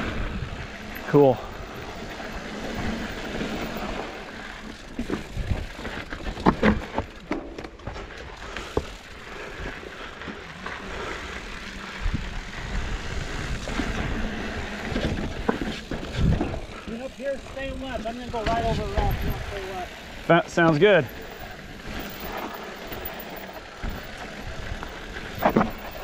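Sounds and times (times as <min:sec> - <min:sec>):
bike tyres rolling on dirt trail: 0:00.0 - 0:26.0
bike knocking and rattling: 0:00.3 - 0:26.0.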